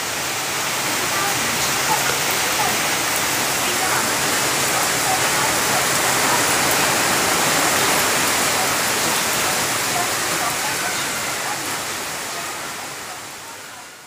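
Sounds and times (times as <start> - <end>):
rain falling on leafy trees: 0.0 - 14.0.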